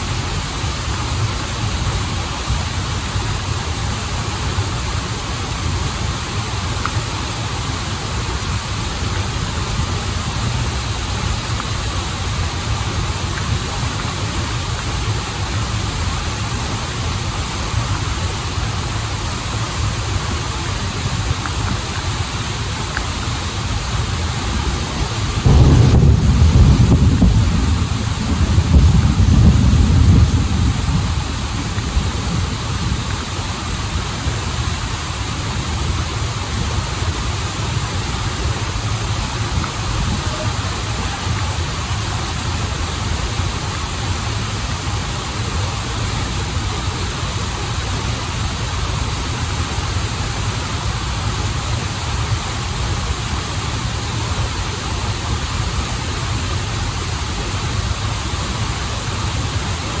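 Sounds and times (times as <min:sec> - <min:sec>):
waterfall and river rushing: 0:00.0 - 1:00.0.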